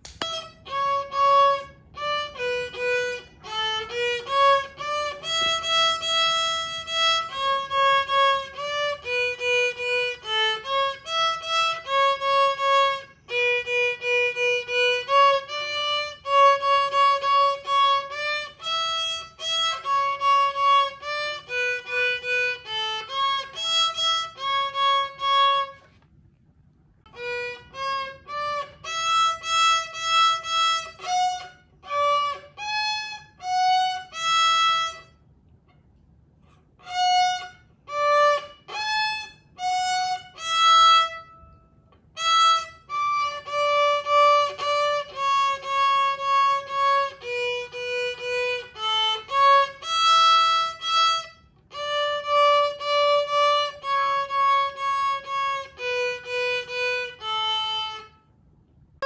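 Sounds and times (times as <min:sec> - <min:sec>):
child playing violin: 0:00.0 - 0:26.0, 0:27.1 - 0:35.2, 0:36.8 - 0:58.3.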